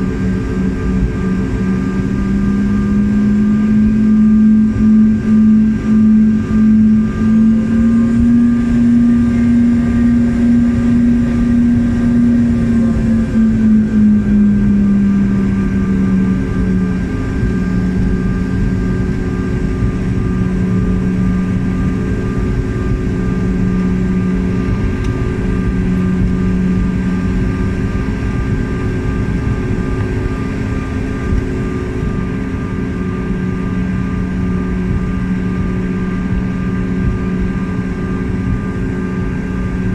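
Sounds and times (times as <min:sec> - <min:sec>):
airliner engines droning in cabin: 0:00.0 - 0:39.9.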